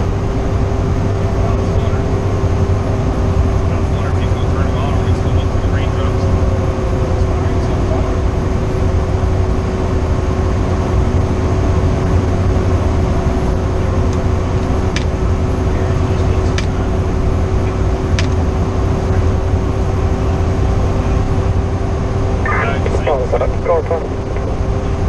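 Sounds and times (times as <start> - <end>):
engine drone and road rumble: 0.0 - 25.0.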